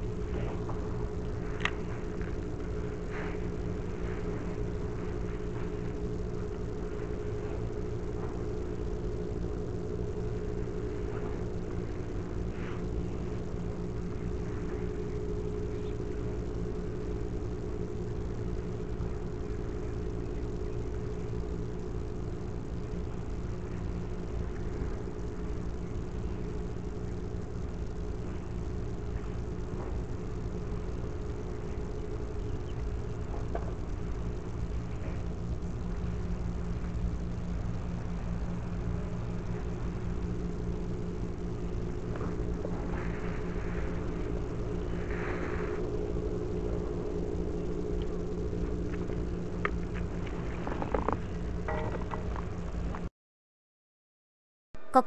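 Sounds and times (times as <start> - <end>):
mechanical hum and drone: 0.0 - 53.1.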